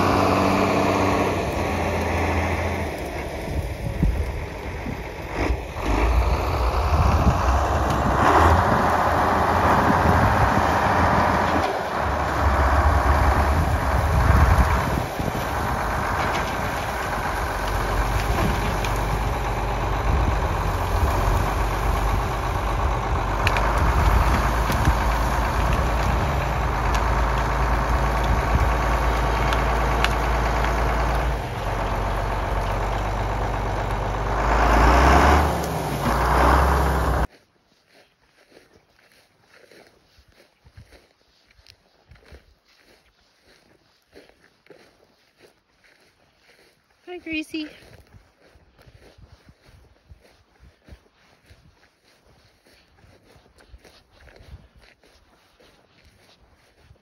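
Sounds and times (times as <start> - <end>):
tractor engine running: 0.0 - 37.4, 44.3 - 57.0.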